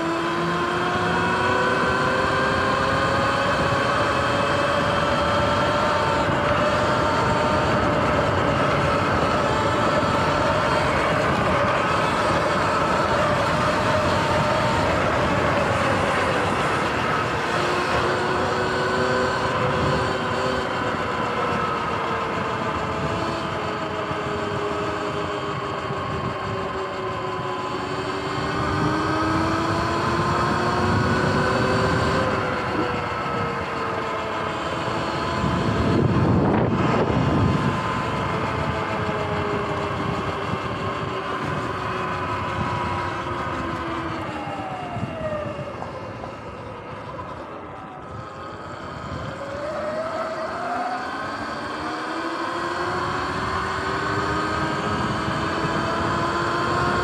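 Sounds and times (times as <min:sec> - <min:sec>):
electric motor whine: 0:00.0 - 0:57.0
steady rushing noise: 0:00.0 - 0:57.0.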